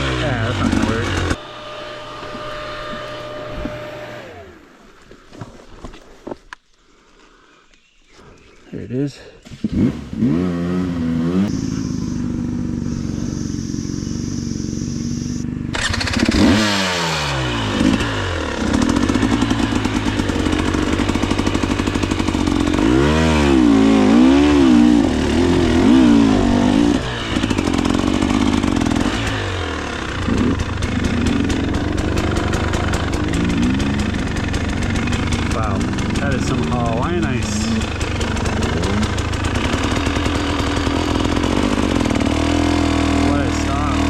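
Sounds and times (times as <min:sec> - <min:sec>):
dirt bike engine revving: 0:00.0 - 0:04.8, 0:09.5 - 0:44.0.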